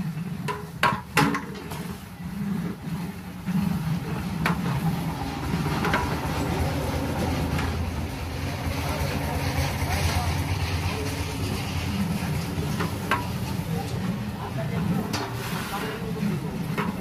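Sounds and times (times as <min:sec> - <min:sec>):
metal ladle scraping cooking pot: 0:00.0 - 0:08.0, 0:08.7 - 0:17.0.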